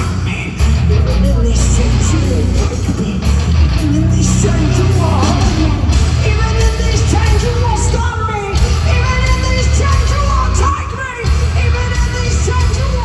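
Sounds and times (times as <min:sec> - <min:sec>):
heavy metal band playing: 0:00.0 - 0:13.0
woman singing: 0:00.9 - 0:13.0.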